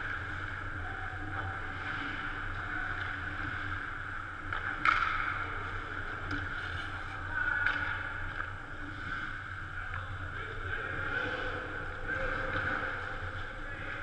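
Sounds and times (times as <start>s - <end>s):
ice arena hum: 0.0s - 14.0s.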